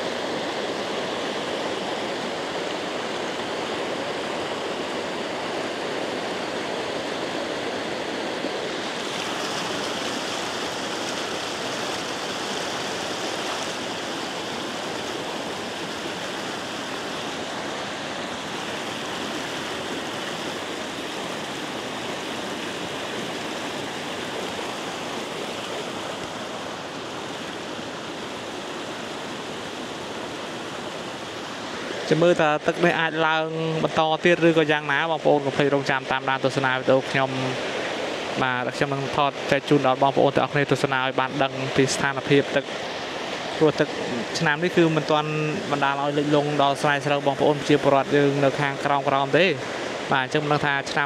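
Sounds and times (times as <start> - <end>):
water rushing: 0.0 - 51.0.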